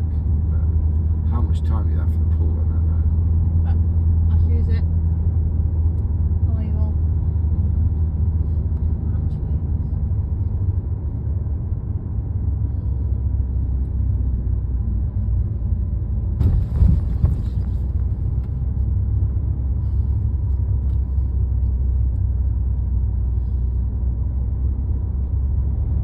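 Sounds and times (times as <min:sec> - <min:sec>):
road rumble inside car: 0:00.0 - 0:26.0.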